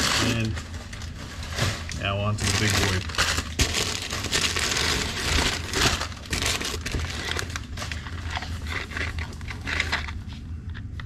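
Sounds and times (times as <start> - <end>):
plastic bag crinkling: 0.0 - 10.4
packing paper crumpling and rustling: 0.0 - 10.6.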